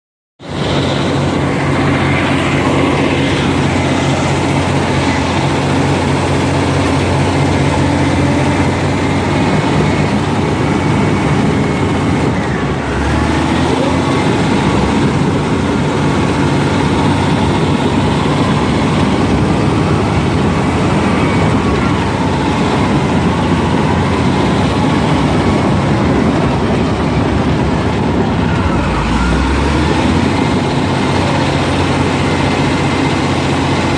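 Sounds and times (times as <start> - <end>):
bulldozer diesel engine running: 0.4 - 33.9.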